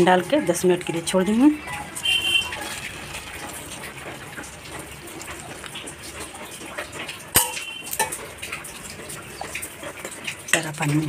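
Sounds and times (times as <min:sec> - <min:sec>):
water pouring into steel bowl: 0:00.0 - 0:11.0.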